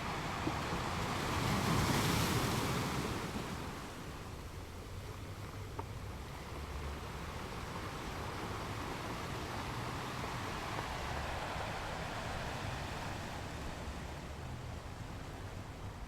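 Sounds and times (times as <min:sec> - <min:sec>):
ocean waves washing onto beach: 0:00.0 - 0:05.0, 0:05.9 - 0:16.0.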